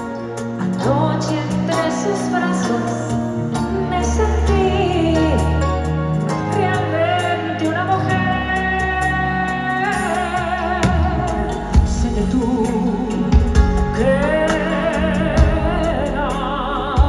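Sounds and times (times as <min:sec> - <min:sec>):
band playing pop ballad: 0:00.0 - 0:17.0
bass: 0:00.0 - 0:17.0
woman singing with vibrato: 0:00.6 - 0:05.6, 0:06.3 - 0:17.0.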